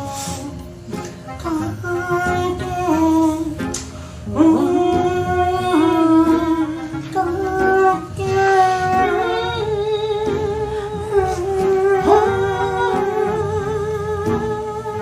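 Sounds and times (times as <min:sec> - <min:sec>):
person humming a slow tune: 0:00.0 - 0:15.0.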